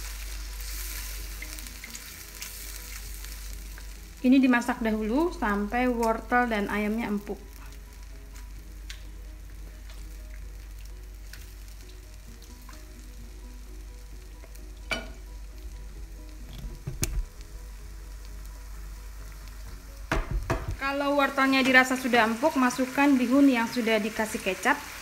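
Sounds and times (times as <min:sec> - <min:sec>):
food simmering and sizzling: 0:00.0 - 0:25.0.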